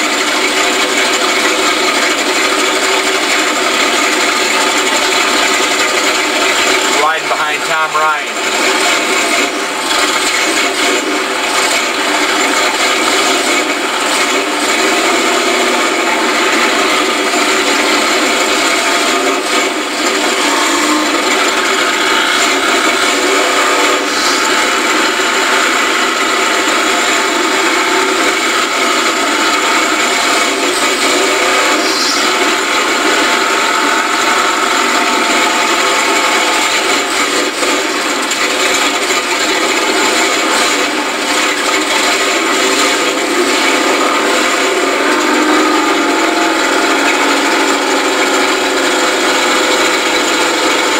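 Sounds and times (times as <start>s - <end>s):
truck engine running hard: 0.0s - 50.9s.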